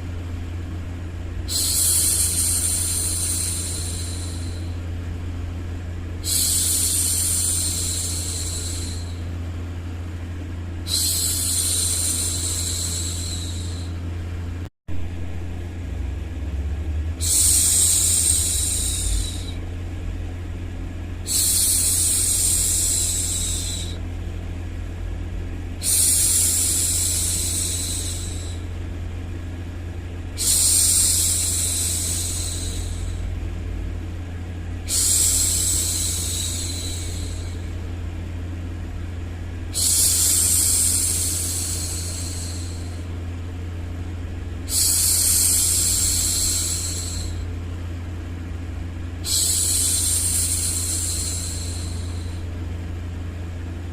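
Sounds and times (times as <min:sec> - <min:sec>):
low white noise hum: 0:00.0 - 0:53.9.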